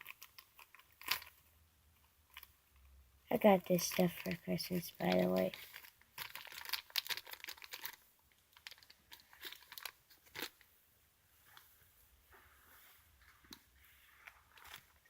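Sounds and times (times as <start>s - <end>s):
crinkling rustle: 0.0s - 10.8s, 11.4s - 15.0s.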